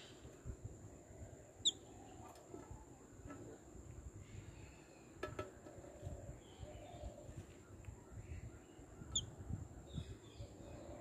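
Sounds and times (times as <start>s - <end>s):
bird chirp: 1.1s - 3.2s, 4.2s - 11.0s.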